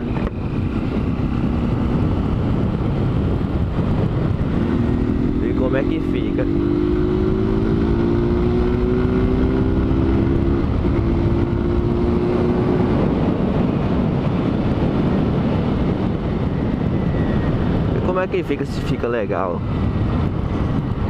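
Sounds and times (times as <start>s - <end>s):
motorcycle engine running: 0.0s - 17.9s
road noise: 0.0s - 21.0s
wind noise on microphone: 0.0s - 21.0s.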